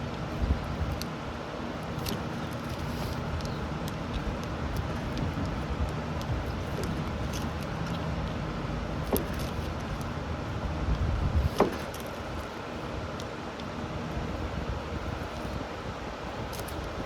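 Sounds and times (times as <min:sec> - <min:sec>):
low wind rumble on microphone: 0:00.0 - 0:17.0.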